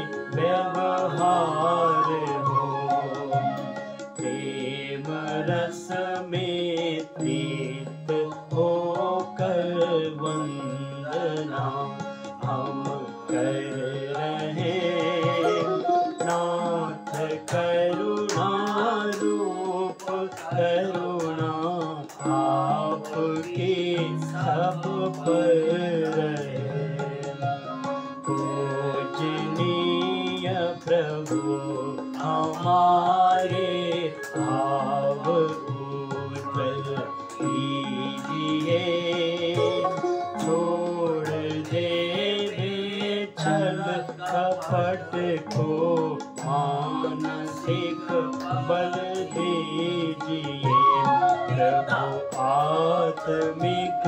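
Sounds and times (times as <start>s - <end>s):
person singing devotional melody: 0.0s - 54.0s.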